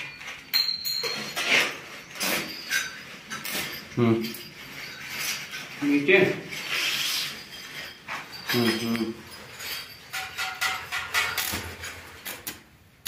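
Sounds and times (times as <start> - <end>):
metal railing tubes clinking: 0.0 - 12.5.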